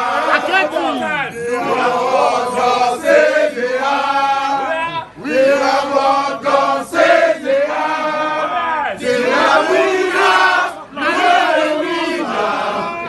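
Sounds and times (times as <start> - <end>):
group of voices chanting: 0.0 - 13.0.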